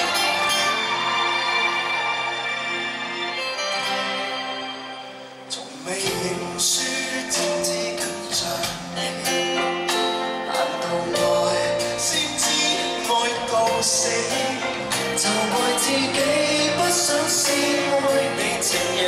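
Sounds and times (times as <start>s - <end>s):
live pop band playing: 0.0s - 19.0s.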